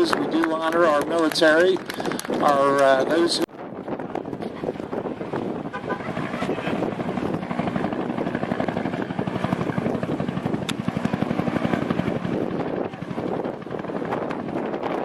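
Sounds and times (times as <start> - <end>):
aircraft engine chopping overhead: 0.0 - 15.0.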